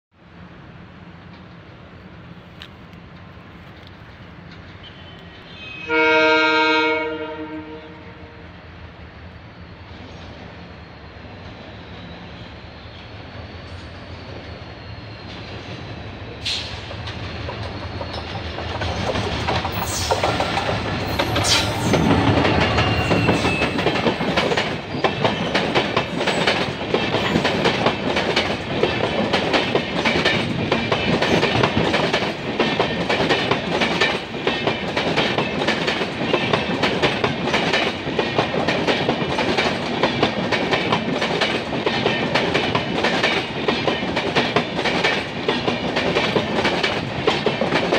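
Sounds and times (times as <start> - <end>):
diesel locomotive engine passing: 0.2 - 47.9
train wheels clickety-clack: 1.2 - 7.6, 11.3 - 47.9.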